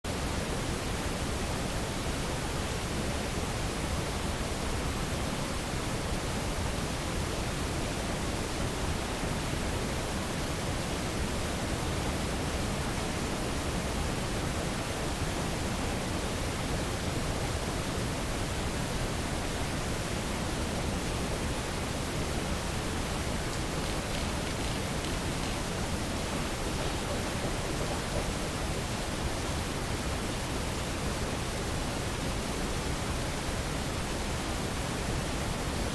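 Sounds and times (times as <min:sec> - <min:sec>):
steady field recording hiss: 0:00.0 - 0:35.9.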